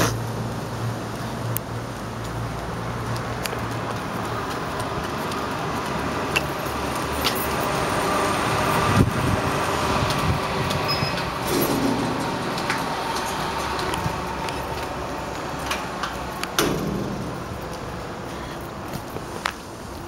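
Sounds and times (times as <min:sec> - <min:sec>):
traffic: 0:00.0 - 0:20.0.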